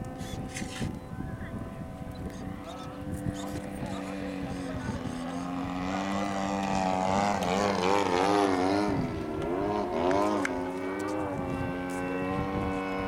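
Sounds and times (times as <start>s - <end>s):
model airplane motor buzzing: 0.0s - 13.0s.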